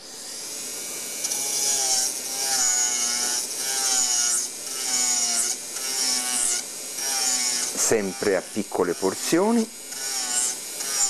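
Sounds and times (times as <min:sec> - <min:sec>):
milling cutter grinding metal: 0:00.0 - 0:11.0.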